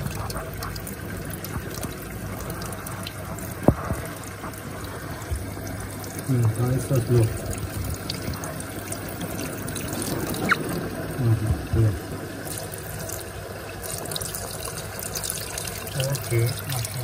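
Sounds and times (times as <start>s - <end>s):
water trickling and dribbling: 0.0s - 17.0s.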